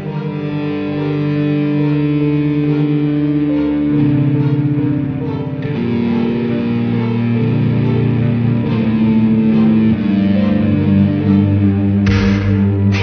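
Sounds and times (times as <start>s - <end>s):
distorted guitar chords: 0.0s - 13.0s.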